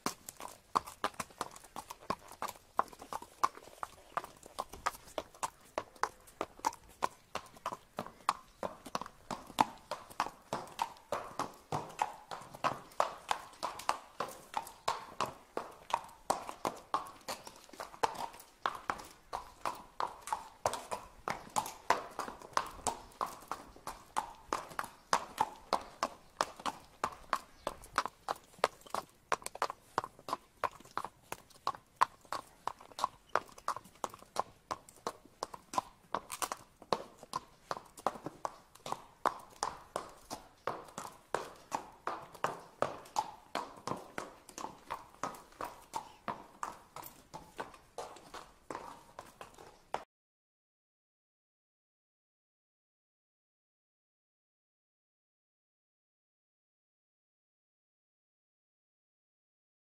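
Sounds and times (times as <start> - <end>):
horse hooves clip-clopping on pavement: 0.0 - 50.1.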